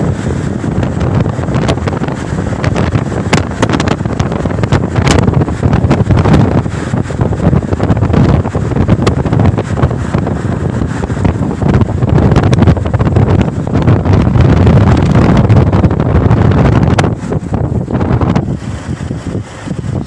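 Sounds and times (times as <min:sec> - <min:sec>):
vehicle road rumble: 0:00.0 - 0:20.0
wind buffeting microphone: 0:00.0 - 0:20.0.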